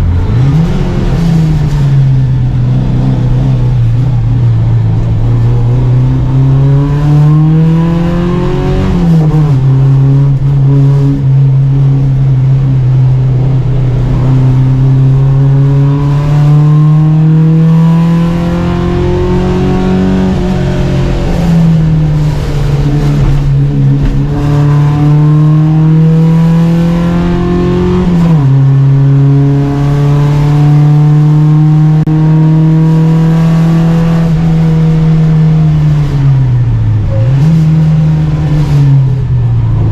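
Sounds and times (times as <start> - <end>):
race car engine pulling hard: 0.0 - 39.9.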